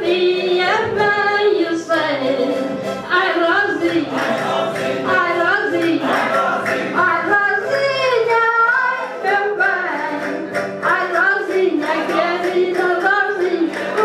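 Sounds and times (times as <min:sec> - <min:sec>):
person singing folk song: 0:00.0 - 0:14.0
strummed stringed instruments: 0:00.0 - 0:14.0.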